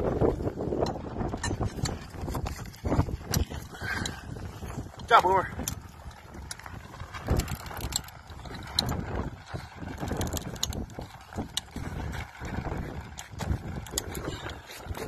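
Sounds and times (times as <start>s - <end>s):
farm jack clicking and clanking: 0.7s - 15.0s.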